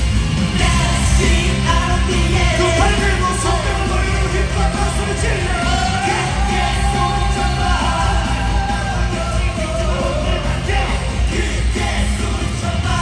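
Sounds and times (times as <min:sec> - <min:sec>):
heavy bass: 0:00.0 - 0:13.0
pop song over sound system: 0:00.0 - 0:13.0
person singing: 0:00.5 - 0:13.0.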